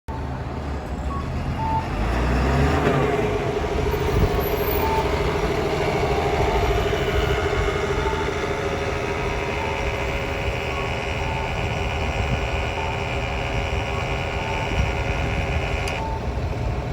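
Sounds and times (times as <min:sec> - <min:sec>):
bus diesel engine buzzing: 0:00.1 - 0:16.9.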